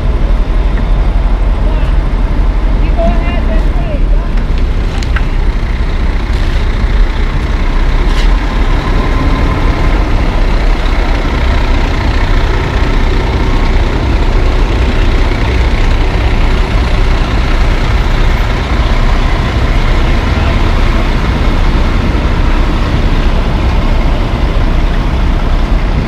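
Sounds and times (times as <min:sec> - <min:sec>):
diesel construction equipment running: 0:00.0 - 0:26.0.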